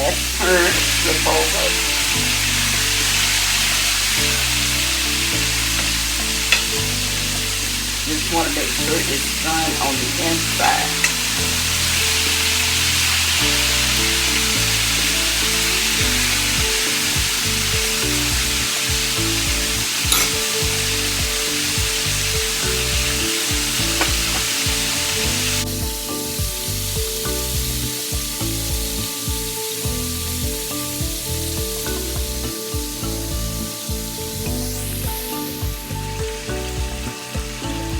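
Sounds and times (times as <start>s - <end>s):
chicken sizzling in hot oil: 0.0s - 37.9s
soft background music: 0.0s - 37.9s.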